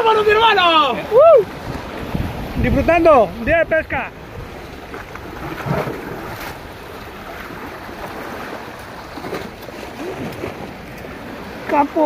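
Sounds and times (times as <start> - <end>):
sea waves: 0.0 - 12.0
wind buffeting microphone: 0.0 - 12.0.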